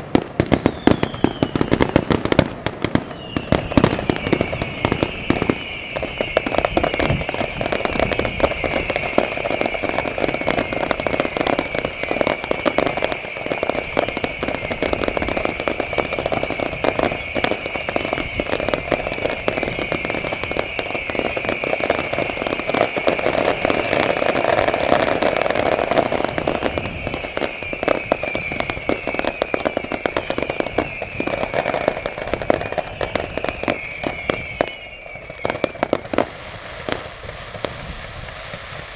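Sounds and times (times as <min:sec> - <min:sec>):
falling firework whistles: 0:00.0 - 0:38.9
fireworks bangs and crackling: 0:00.0 - 0:38.9.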